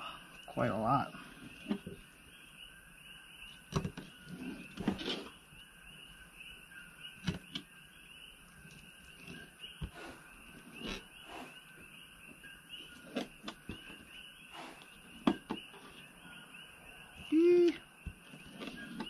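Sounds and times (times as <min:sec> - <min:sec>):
frogs chirping: 0:00.0 - 0:19.0.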